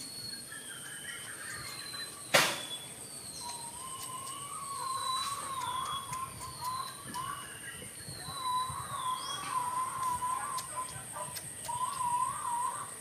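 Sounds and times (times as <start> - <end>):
high whistled bird call: 0.0 - 13.0
lower wavering bird call: 0.0 - 13.0.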